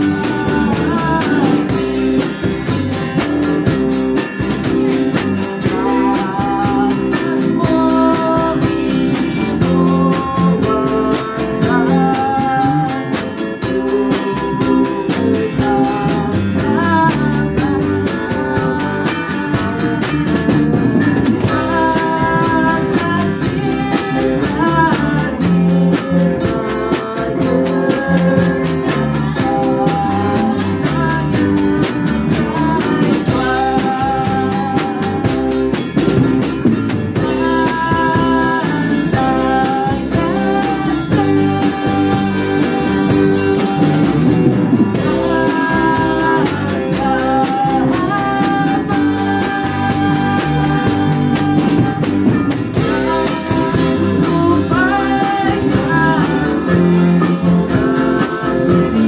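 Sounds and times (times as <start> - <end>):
acoustic and electric guitars: 0.0 - 59.0
drum kit cymbals beat: 0.0 - 59.0
person singing: 0.0 - 59.0.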